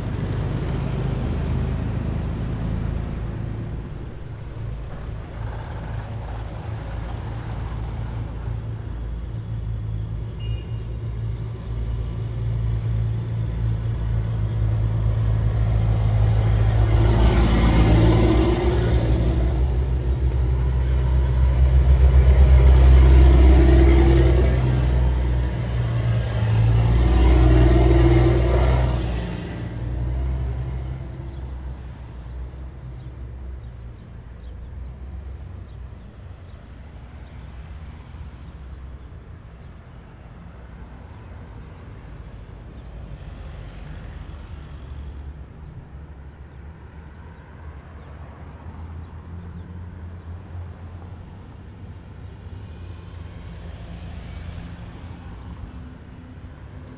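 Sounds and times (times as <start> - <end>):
heavy vehicle engines droning: 0.0 - 56.9.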